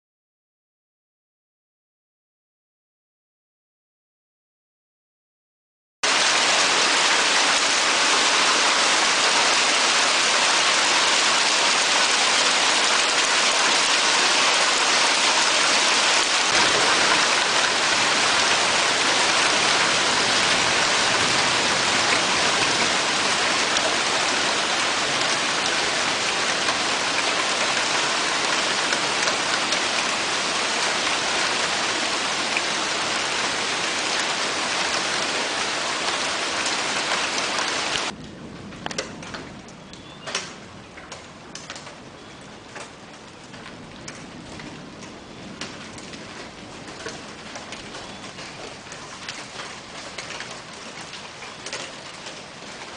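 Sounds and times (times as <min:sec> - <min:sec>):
hail and rain pelting down: 0:06.0 - 0:52.9.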